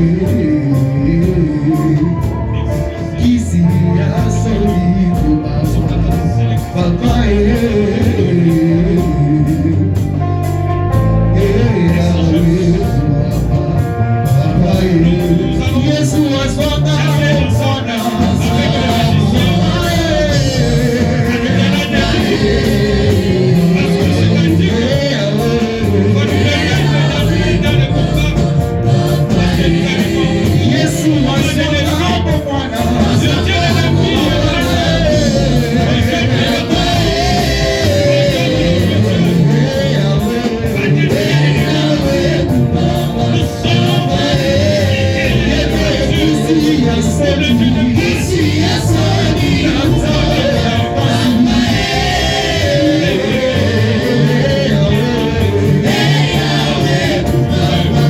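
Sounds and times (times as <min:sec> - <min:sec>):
gospel singing voices: 0:00.0 - 0:58.0
steady bass beat: 0:00.0 - 0:58.0.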